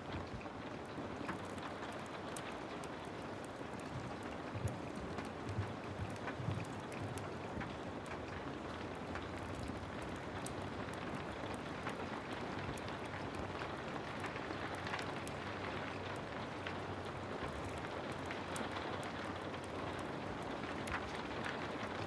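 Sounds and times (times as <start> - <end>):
heavy rain falling: 0.0 - 22.0
wood fire crackling: 0.0 - 22.0.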